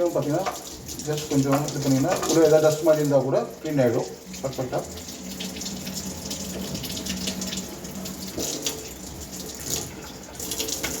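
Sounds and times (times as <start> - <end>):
tap water running and splashing: 0.0 - 11.0.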